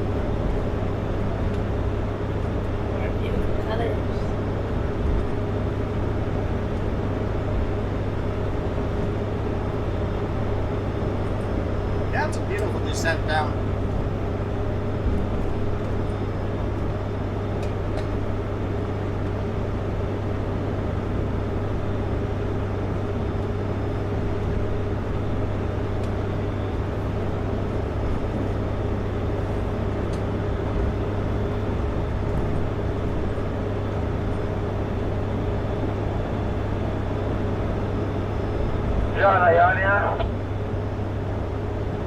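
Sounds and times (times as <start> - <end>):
truck engine and road noise: 0.0 - 42.0.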